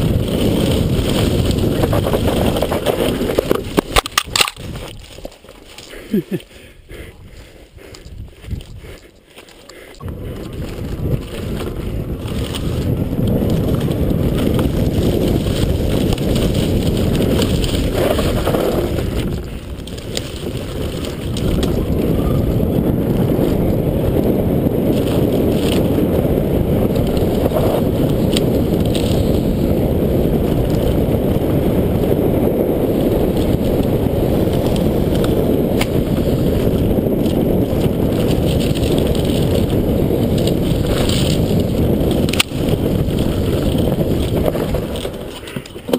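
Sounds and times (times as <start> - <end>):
tyre and trail rattle: 0.0 - 45.9
wind buffeting microphone: 0.0 - 45.9.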